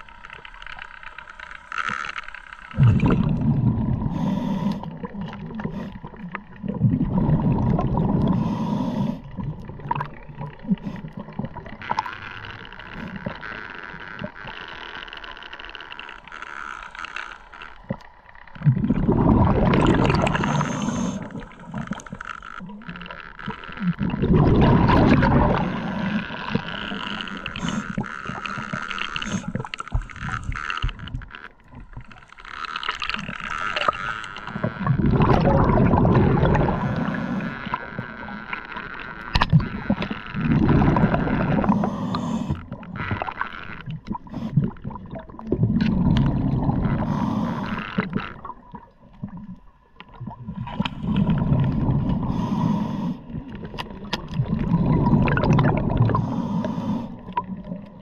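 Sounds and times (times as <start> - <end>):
underwater water rushing and gurgling: 0.0 - 58.0.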